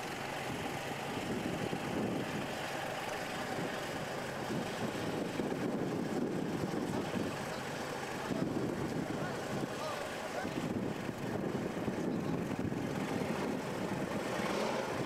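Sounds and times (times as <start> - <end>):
military vehicle engine droning: 0.0 - 15.0.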